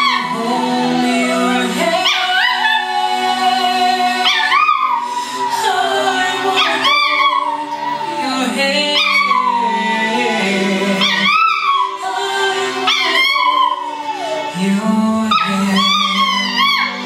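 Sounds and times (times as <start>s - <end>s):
dog howling: 0.0s - 17.0s
song playing: 0.0s - 17.0s.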